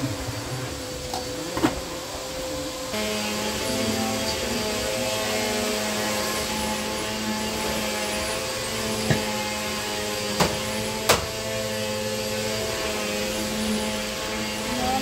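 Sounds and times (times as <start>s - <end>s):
whirring hum: 0.0s - 15.0s.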